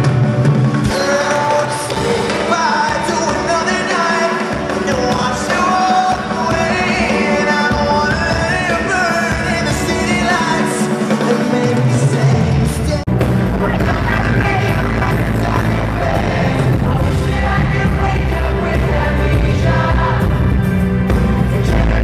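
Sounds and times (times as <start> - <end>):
pop-rock band playing live: 0.0 - 22.0
man singing: 0.8 - 20.2, 21.1 - 22.0.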